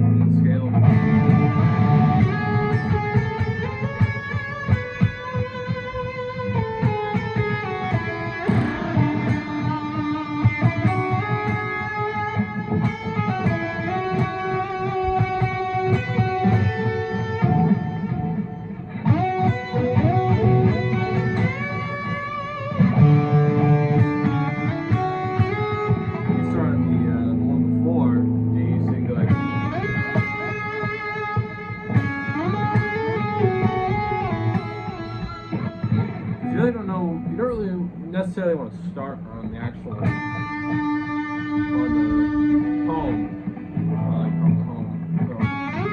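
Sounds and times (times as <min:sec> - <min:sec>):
electric guitar melody: 0:00.0 - 0:45.9
low rhythmic pattern: 0:00.0 - 0:45.9.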